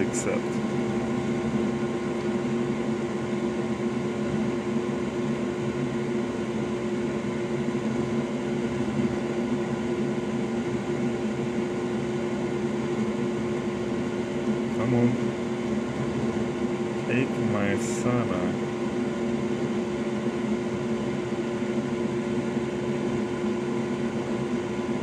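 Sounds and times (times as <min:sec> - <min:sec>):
electric fan machine humming: 0:00.0 - 0:25.0.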